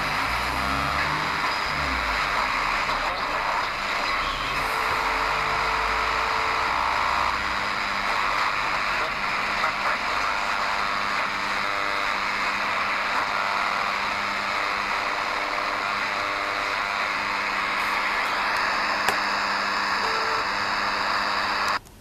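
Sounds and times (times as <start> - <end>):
buzzing interference: 0.0 - 21.8
faint steady radio tones: 0.0 - 22.0
radio static hiss: 0.0 - 22.0.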